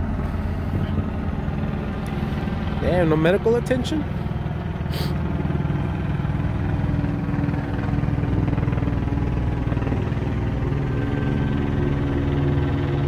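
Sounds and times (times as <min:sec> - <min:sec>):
pulsing engine drone: 0:00.0 - 0:13.0.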